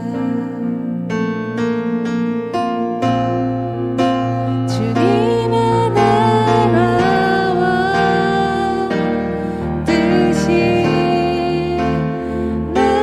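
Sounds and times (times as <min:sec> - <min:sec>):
person singing slow melody: 0:00.0 - 0:01.8, 0:04.0 - 0:13.0
electric piano chords: 0:00.0 - 0:13.0.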